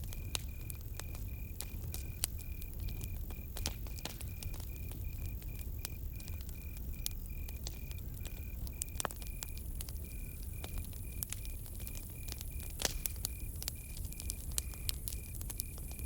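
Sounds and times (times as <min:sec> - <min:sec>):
campfire crackling and popping: 0:00.0 - 0:16.0
cricket chirping: 0:00.0 - 0:16.0.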